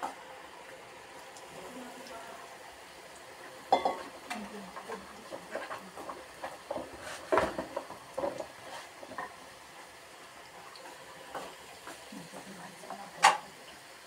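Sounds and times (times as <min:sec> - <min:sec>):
potatoes deep-frying in oil: 0:00.0 - 0:14.0.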